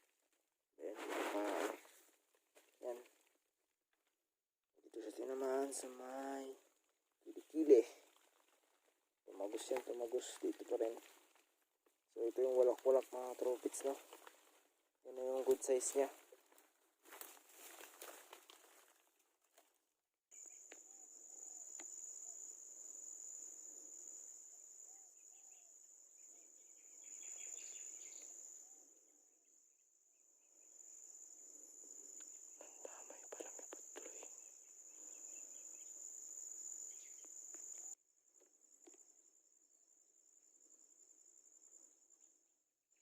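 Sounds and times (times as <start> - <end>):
insects droning: 4.8 - 11.5, 12.2 - 18.6, 20.4 - 43.0.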